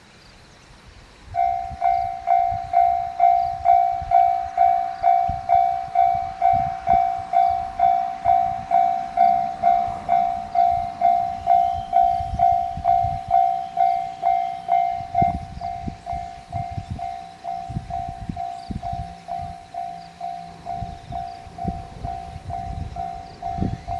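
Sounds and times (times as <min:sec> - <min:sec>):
level crossing warning bell: 0:01.3 - 0:23.9.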